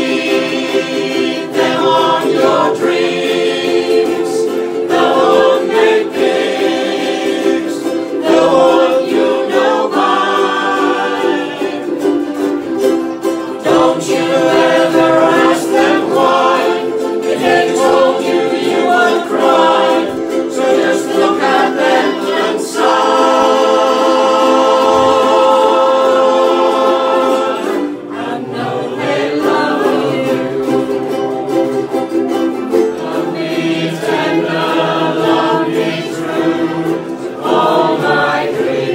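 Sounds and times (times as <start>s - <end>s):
group of people singing: 0.0s - 38.9s
ukulele strumming: 0.0s - 38.9s.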